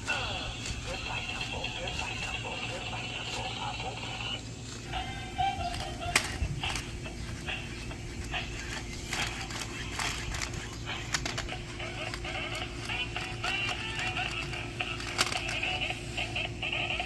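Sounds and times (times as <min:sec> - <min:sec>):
toy electronic animal sounds: 0:00.0 - 0:17.0.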